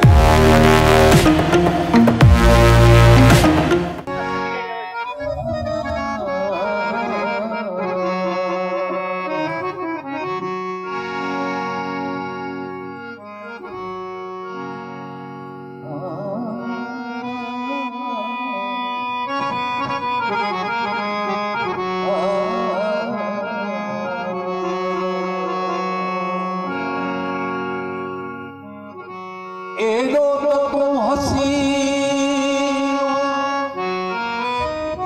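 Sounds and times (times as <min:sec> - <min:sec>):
harmonium playing chords: 0:00.0 - 0:35.0
ornamented melodic line: 0:00.0 - 0:35.0.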